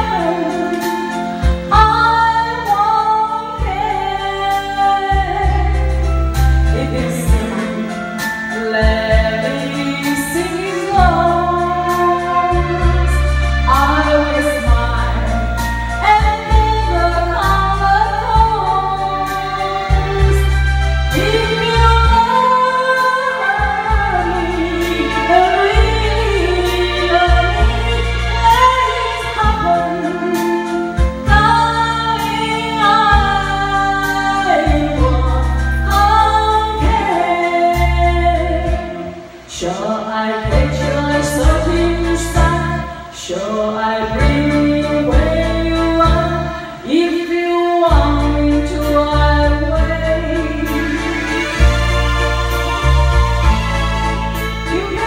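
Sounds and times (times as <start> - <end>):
backing track with bass line: 0.0 - 39.7, 40.4 - 55.0
woman singing into microphone: 0.0 - 55.0.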